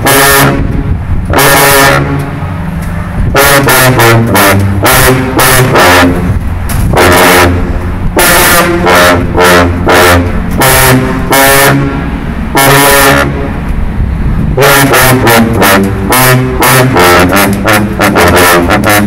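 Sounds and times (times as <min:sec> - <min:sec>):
sousaphones playing a fanfare: 0:00.0 - 0:02.6, 0:03.3 - 0:13.7, 0:14.6 - 0:19.0.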